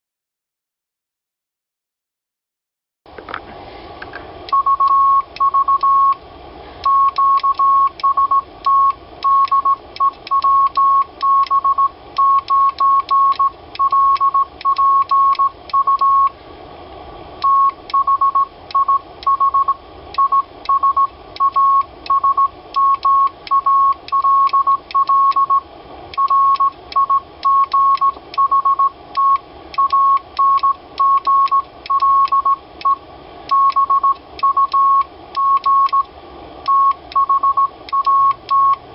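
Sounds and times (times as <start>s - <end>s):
morse code beeps: 4.5s - 6.2s, 6.8s - 16.3s, 17.4s - 25.6s, 26.2s - 36.1s, 36.7s - 38.8s.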